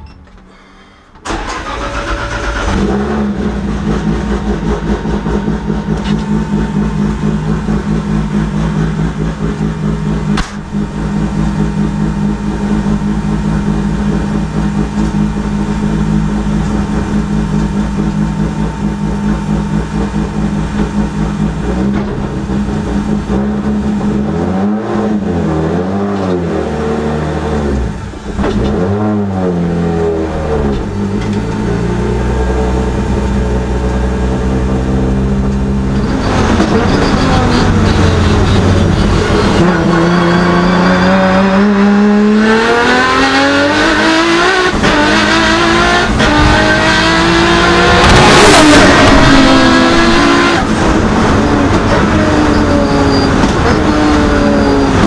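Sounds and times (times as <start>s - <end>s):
car engine starting and idling: 0.0s - 55.0s
engine revving: 1.3s - 55.0s.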